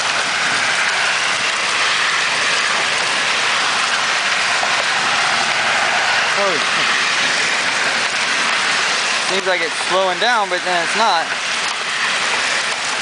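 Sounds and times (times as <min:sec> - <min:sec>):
large hail hitting: 0:00.0 - 0:13.0.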